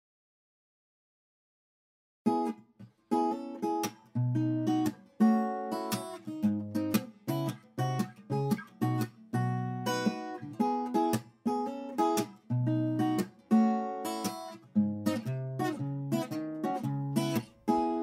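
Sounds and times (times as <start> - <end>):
acoustic guitar strumming chords: 3.2 - 18.0.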